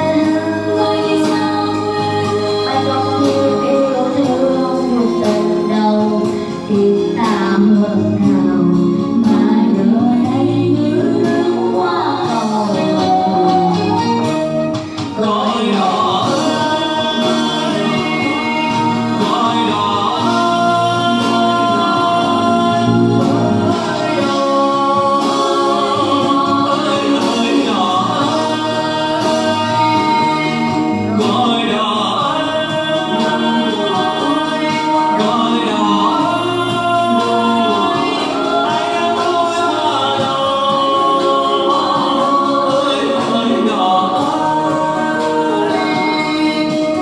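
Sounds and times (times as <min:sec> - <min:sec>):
boy singing into microphone: 0:00.0 - 0:47.0
karaoke backing music: 0:00.0 - 0:47.0.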